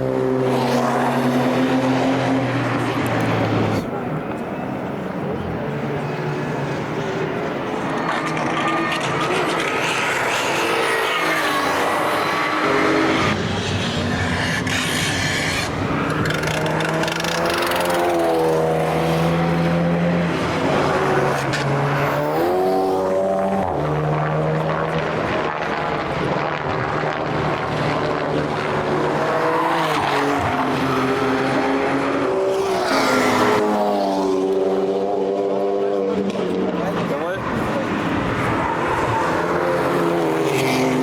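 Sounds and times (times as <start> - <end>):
racing cars passing: 0.0 - 41.0.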